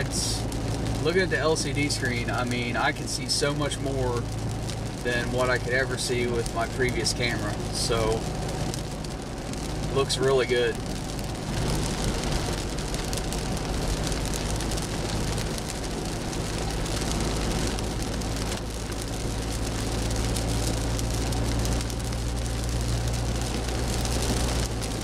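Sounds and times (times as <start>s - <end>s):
low road drone: 0.0s - 25.0s
rain on car windshield and roof: 0.0s - 25.0s
tyres hissing on wet road: 0.0s - 25.0s.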